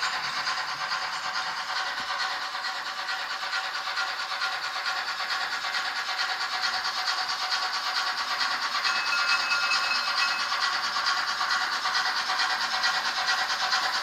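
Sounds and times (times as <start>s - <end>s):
model trains rumbling on track: 0.0s - 14.0s.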